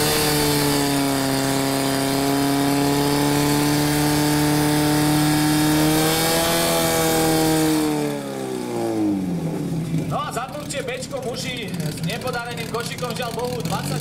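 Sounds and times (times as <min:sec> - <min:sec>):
pump engine high-revving drone: 0:00.0 - 0:14.0.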